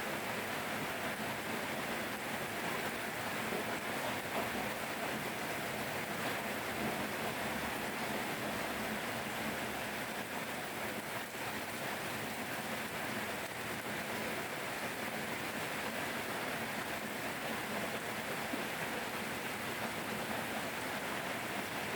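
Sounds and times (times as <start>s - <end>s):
steady rain: 0.0s - 21.9s.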